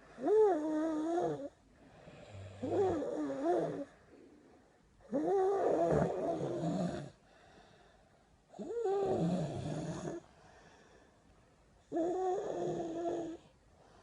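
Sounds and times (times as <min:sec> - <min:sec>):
quiet breaths: 0:00.0 - 0:14.0.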